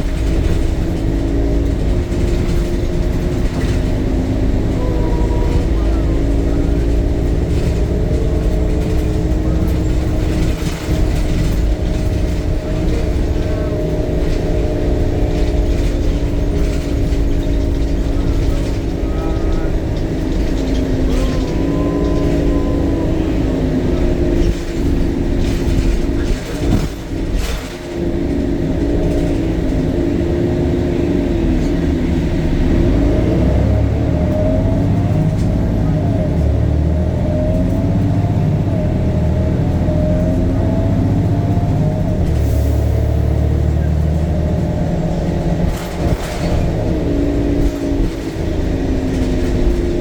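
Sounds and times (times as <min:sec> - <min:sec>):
bus body rattles: 0:00.0 - 0:50.0
bus engine whine: 0:00.0 - 0:50.0.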